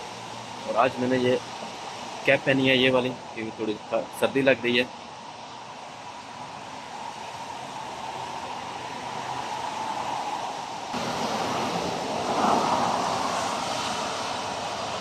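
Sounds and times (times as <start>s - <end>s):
traffic on a wet road: 0.0s - 15.0s.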